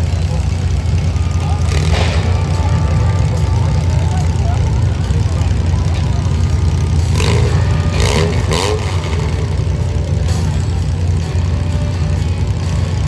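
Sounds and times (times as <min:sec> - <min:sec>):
car engines idling: 0:00.0 - 0:13.0
engine revving: 0:00.0 - 0:13.0.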